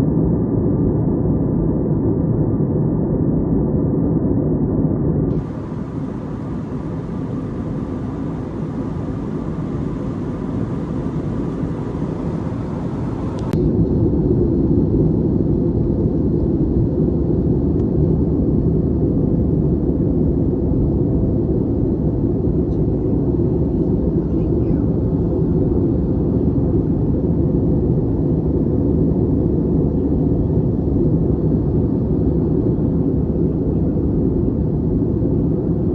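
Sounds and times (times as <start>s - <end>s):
airliner cabin roar: 5.3s - 35.9s.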